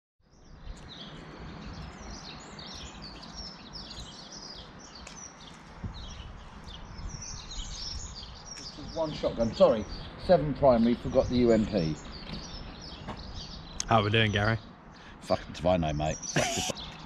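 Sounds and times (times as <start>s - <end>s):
songbirds chirping: 0.2s - 17.0s.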